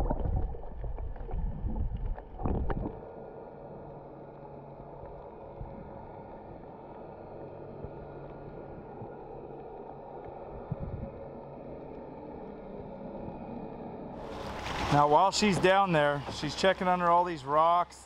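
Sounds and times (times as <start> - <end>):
underwater rumble and hiss: 0.0 - 17.9.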